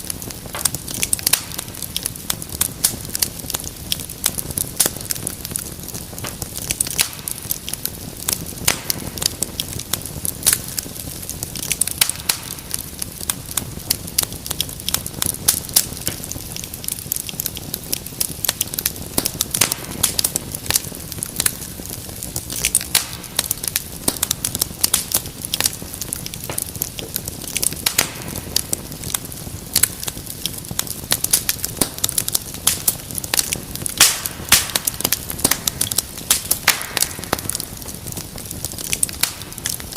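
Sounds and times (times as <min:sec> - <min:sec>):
fire crackling and popping: 0:00.0 - 0:39.9
low rumble of burning: 0:00.0 - 0:39.9.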